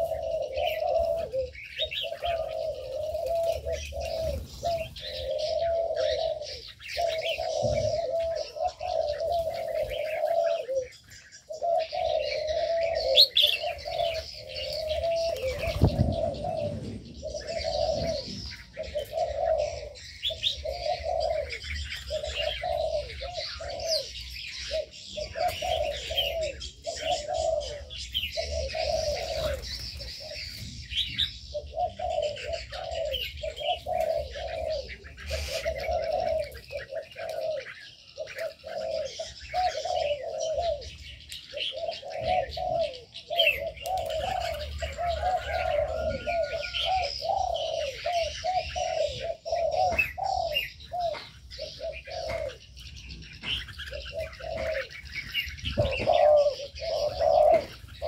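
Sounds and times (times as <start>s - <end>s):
doves cooing: 0.0s - 58.0s
small birds chirping: 0.0s - 58.0s.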